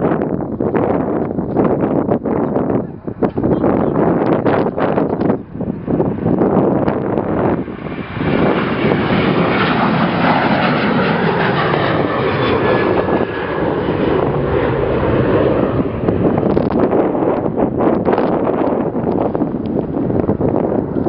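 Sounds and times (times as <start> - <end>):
jet engine roar: 0.0 - 21.0
wind buffeting microphone: 0.0 - 21.0.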